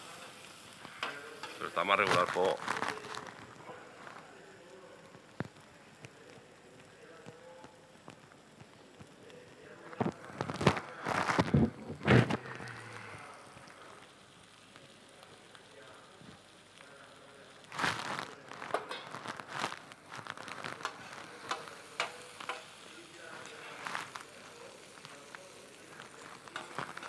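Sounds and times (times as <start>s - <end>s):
onion sizzling in a pan: 0.0s - 27.0s.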